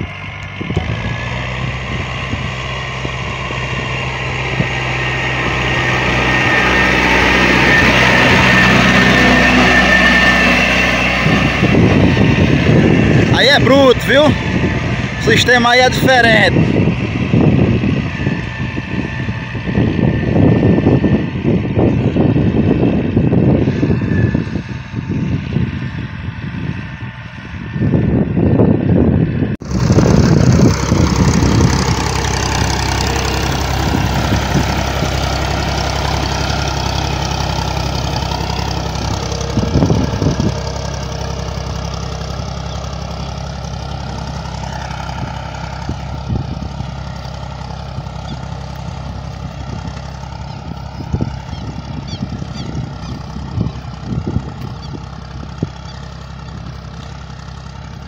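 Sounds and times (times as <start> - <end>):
tractor diesel engine running: 0.0 - 58.0
wind buffeting microphone: 0.0 - 58.0.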